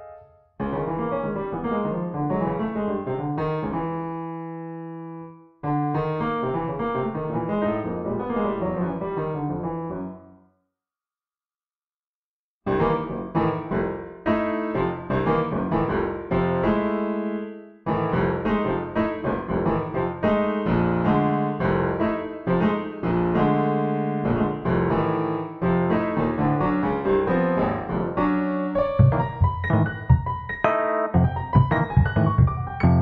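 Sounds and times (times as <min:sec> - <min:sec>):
improvised piano music: 0:00.0 - 0:10.4, 0:12.7 - 0:33.0.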